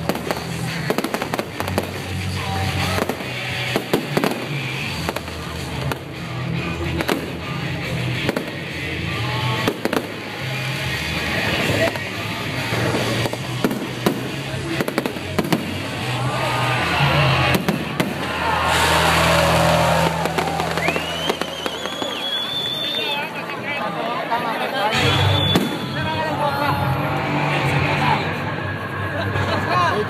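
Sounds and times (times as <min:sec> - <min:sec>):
fireworks bangs and crackling: 0:00.0 - 0:23.3, 0:25.0 - 0:26.2.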